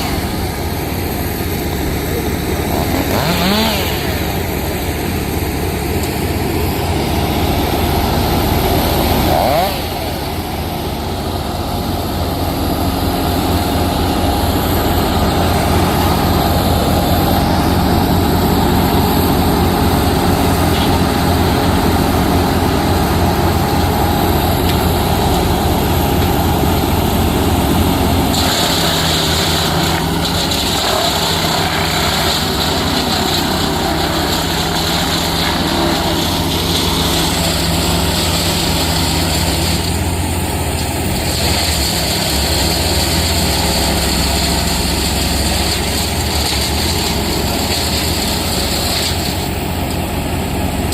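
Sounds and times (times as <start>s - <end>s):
large engine running: 0.0s - 50.9s.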